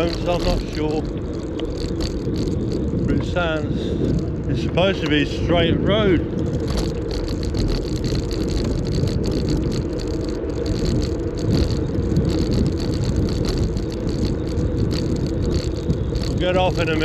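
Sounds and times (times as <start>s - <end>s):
tyre noise on road: 0.0s - 17.0s
wind rumble on microphone: 0.0s - 17.0s.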